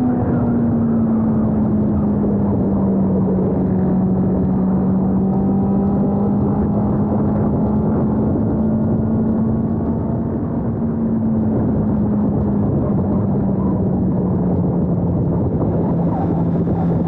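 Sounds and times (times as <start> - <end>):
motorcycle engine at speed: 0.0 - 17.0
wind rushing: 0.0 - 17.0.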